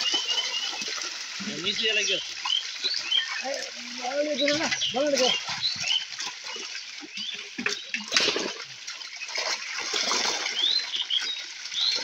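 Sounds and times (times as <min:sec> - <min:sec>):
pond water splashing: 0:00.0 - 0:12.0.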